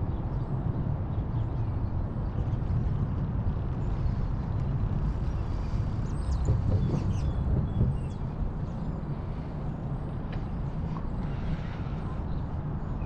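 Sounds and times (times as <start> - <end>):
city traffic rumble: 0.0 - 13.0
wind: 0.0 - 13.0.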